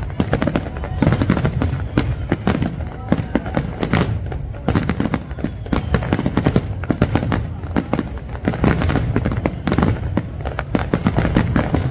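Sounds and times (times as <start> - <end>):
fireworks bangs and crackles: 0.0 - 11.9.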